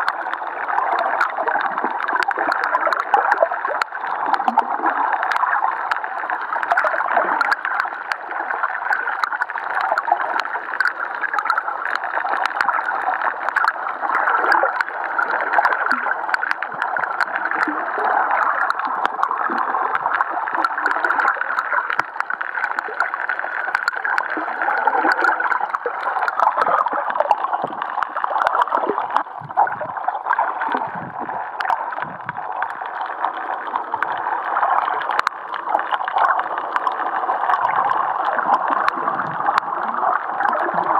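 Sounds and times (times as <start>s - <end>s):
muffled underwater water noise: 0.0s - 40.9s.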